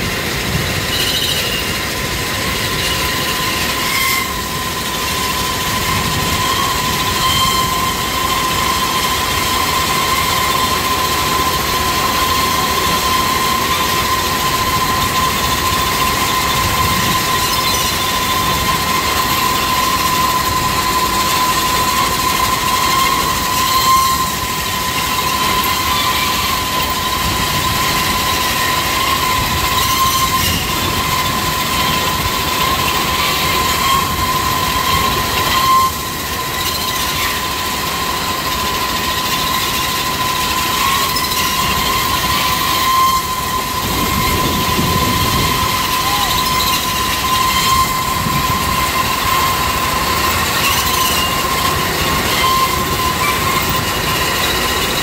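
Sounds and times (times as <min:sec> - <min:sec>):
continuous rushing noise: 0:00.0 - 0:55.0
conveyor machinery whine: 0:00.0 - 0:55.0.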